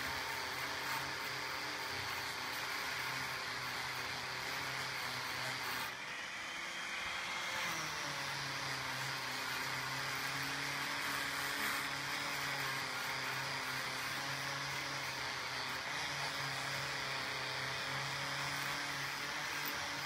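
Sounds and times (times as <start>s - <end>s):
angle grinder grinding metal: 0.0s - 20.0s.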